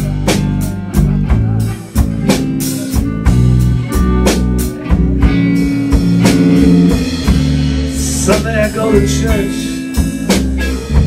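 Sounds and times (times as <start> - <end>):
bass guitar: 0.0 - 11.0
drum kit beat: 0.0 - 11.0
electric guitar: 0.0 - 11.0.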